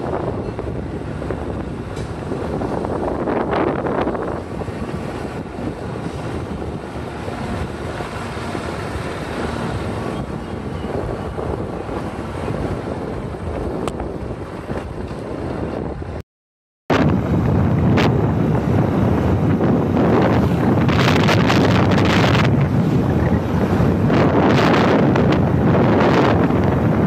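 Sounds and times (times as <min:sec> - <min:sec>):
road noise: 0:00.0 - 0:16.2, 0:16.9 - 0:27.0
wind buffeting microphone: 0:00.0 - 0:16.2, 0:16.9 - 0:27.0.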